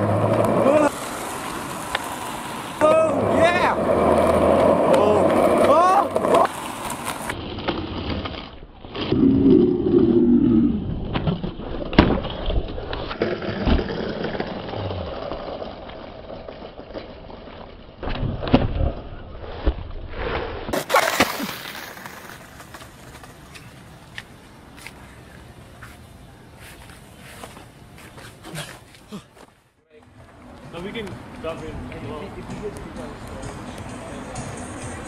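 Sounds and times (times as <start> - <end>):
skateboard wheels rolling on pavement: 0.0 - 20.0, 20.7 - 35.0.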